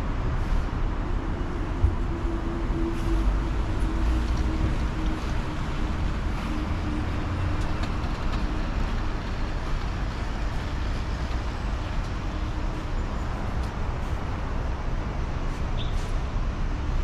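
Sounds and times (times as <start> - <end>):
bus tyres and road noise: 0.0 - 17.0.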